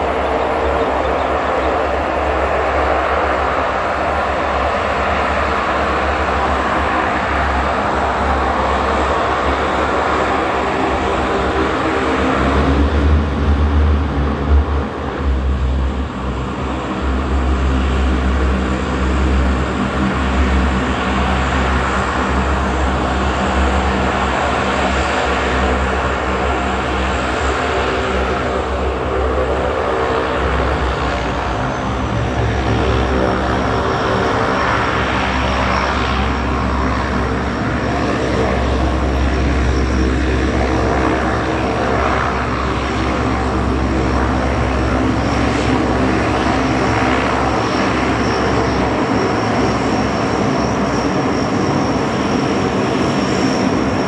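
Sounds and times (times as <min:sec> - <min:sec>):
turboprop engines running: 0:00.0 - 0:54.0.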